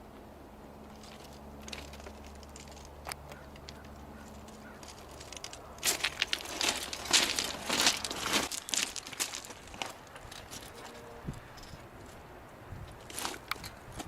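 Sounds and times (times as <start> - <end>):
rustling and crinkling: 0.8 - 14.0.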